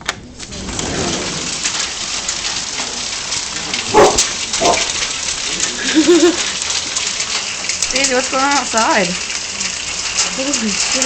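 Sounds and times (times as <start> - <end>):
heavy hail clattering: 0.0 - 11.0.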